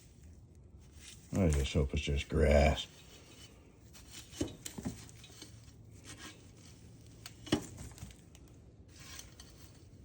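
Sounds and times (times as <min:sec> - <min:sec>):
grass rustling and scraping: 0:00.0 - 0:08.3, 0:08.9 - 0:10.0.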